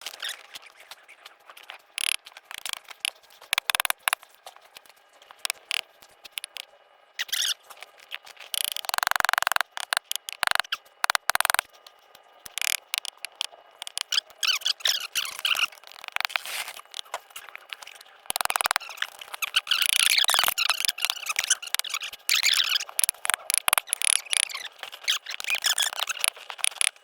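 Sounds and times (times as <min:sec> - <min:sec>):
fast squeaky chirps and scrapes: 0:00.1 - 0:06.6, 0:07.2 - 0:27.0.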